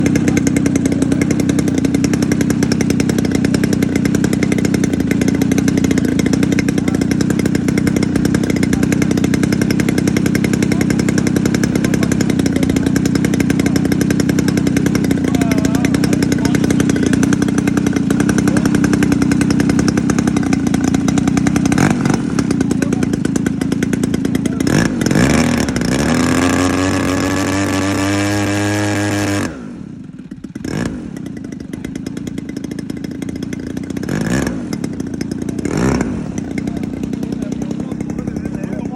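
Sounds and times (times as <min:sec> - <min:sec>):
model airplane engine buzzing: 0:00.0 - 0:38.9.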